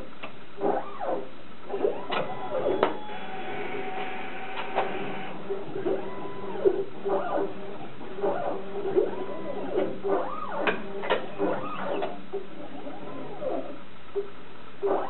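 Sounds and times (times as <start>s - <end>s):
stepper motor whine: 0.6s - 13.8s.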